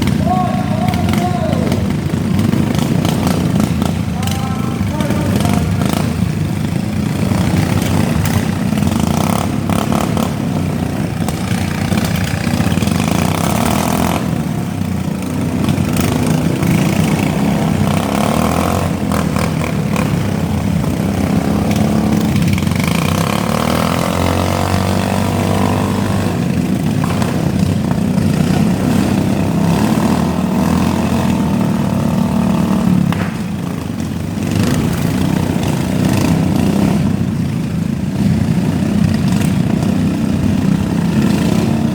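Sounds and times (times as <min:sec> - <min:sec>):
lawn mower engines revving: 0:00.0 - 0:41.9
mowers knocking together: 0:00.0 - 0:41.9.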